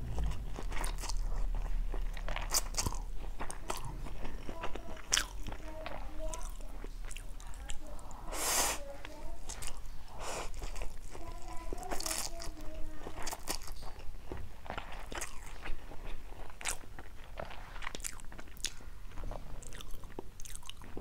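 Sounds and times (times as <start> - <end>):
chewing noodles: 0.0 - 21.0.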